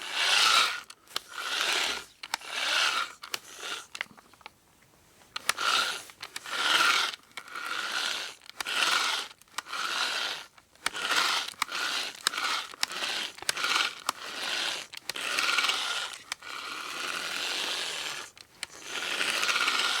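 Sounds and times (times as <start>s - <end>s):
hand drill bit grinding: 0.0s - 4.1s, 5.3s - 20.0s
hand drill clicks: 0.1s - 4.1s, 5.3s - 20.0s.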